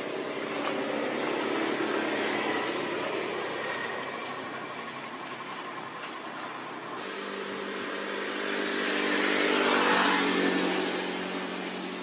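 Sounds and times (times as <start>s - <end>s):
vehicle engine passing: 0.0s - 5.7s, 7.0s - 12.0s
steady background hiss: 0.0s - 12.0s.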